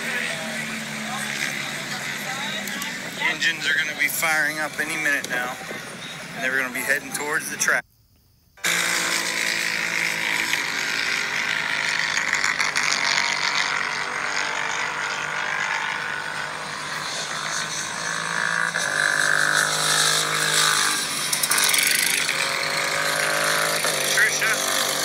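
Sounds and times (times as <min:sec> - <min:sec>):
motorcycles racing past: 0:00.0 - 0:07.3, 0:08.6 - 0:25.0.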